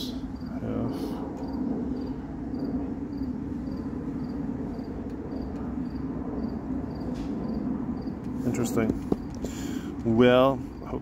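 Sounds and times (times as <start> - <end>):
cricket chirping: 0.0 - 9.9
steady low hum: 0.0 - 11.0.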